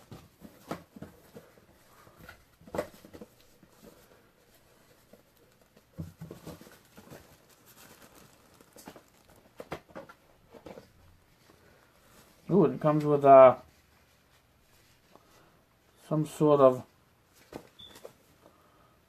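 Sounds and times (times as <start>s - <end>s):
light rustling of packaging: 0.0s - 18.8s.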